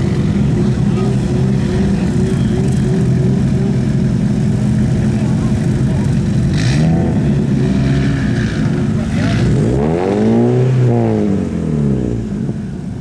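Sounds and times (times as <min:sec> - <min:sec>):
car engine idling: 0:00.0 - 0:13.0
car engine revving: 0:00.0 - 0:13.0.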